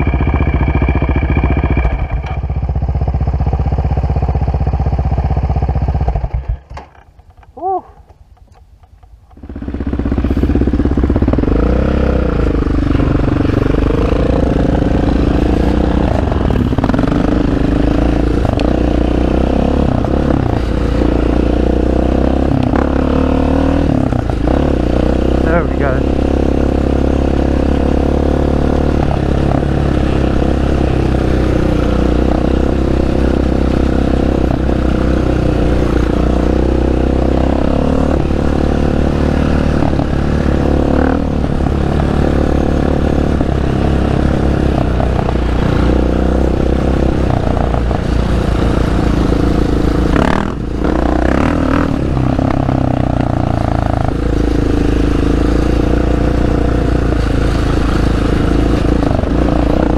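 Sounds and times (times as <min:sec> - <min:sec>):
quad engine revving: 0:09.4 - 0:59.9.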